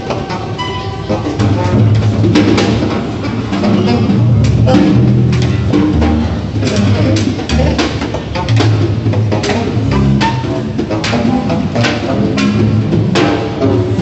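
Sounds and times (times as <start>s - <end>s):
double bass notes: 0.0s - 14.0s
saxophone: 0.0s - 14.0s
drum hits: 1.4s - 14.0s.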